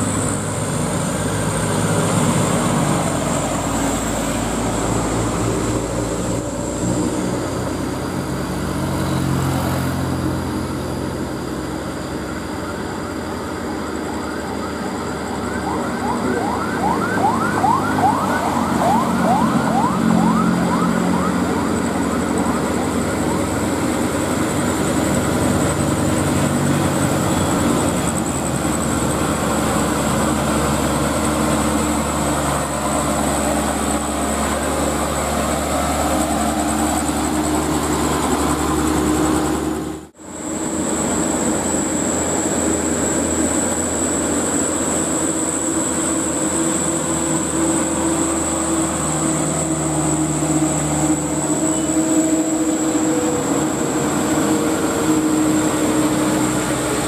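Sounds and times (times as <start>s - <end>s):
diesel truck engines under load: 0.0s - 57.0s
high-pitched whine: 0.0s - 57.0s.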